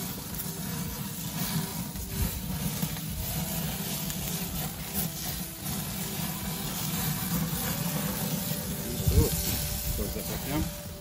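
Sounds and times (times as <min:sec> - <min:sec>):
charcoal fire burning: 0:00.0 - 0:11.0.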